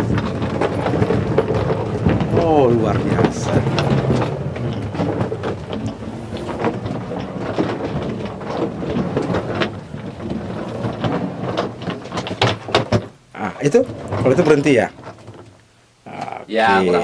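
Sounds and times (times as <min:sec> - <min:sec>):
suitcase wheels rolling: 0:00.0 - 0:17.0.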